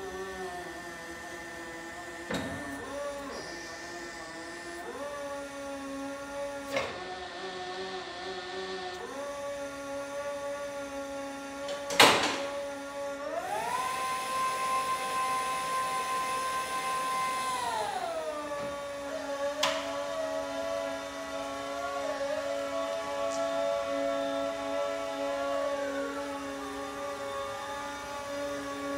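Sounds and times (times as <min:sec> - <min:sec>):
hydraulic pump motor whining: 0:00.0 - 0:28.9.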